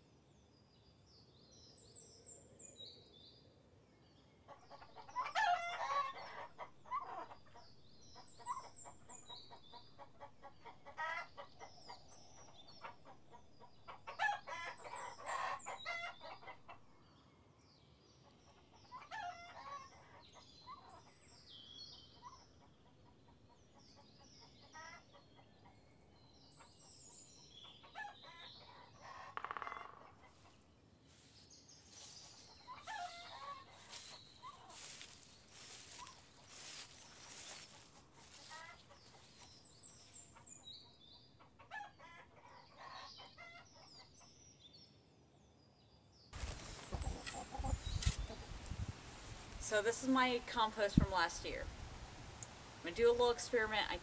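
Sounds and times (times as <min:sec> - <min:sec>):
small birds chirping: 0:04.2 - 0:17.3, 0:17.9 - 0:45.0, 0:45.8 - 0:54.0.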